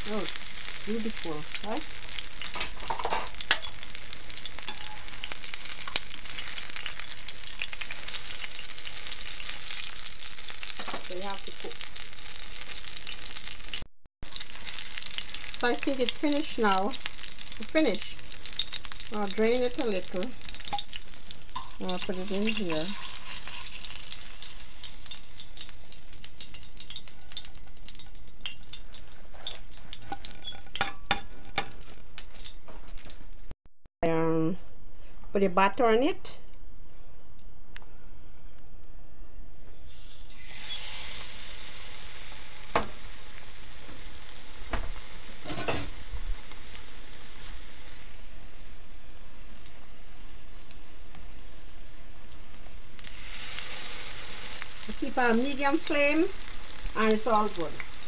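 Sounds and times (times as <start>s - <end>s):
fritters sizzling in oil: 0.0s - 33.5s, 39.8s - 58.0s
oil crackles and pops: 0.0s - 33.5s, 39.8s - 58.0s.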